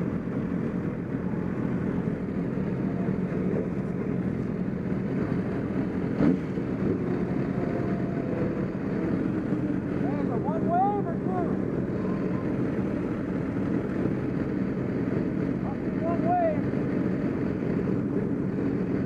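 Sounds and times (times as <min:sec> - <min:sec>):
racing motorcycle engine: 0:00.0 - 0:18.9
dense rushing noise: 0:00.0 - 0:19.0.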